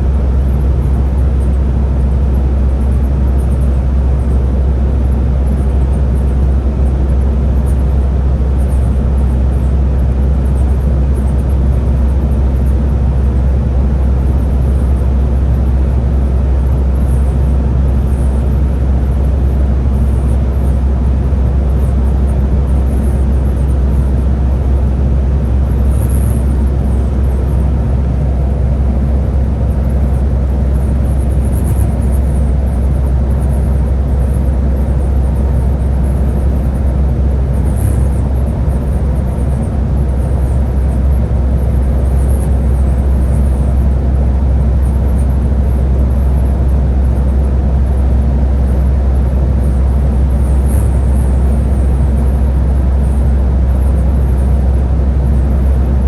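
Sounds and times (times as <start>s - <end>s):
bus engine rumble: 0.0s - 56.0s.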